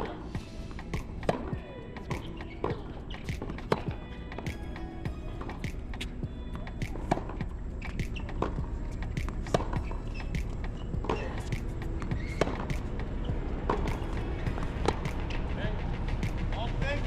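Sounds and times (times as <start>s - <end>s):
outdoor background noise: 0.0s - 17.0s
tennis balls struck by racquets: 0.0s - 17.0s.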